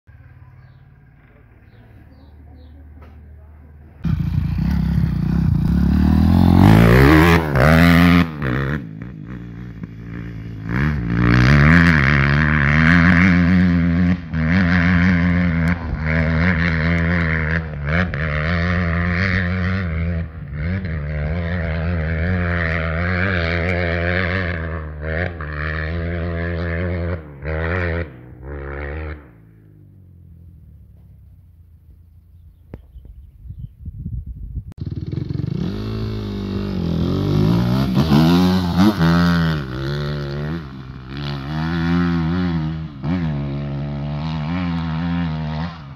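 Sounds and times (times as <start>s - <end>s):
dirt bike engine revving: 4.0s - 30.5s, 34.8s - 45.9s.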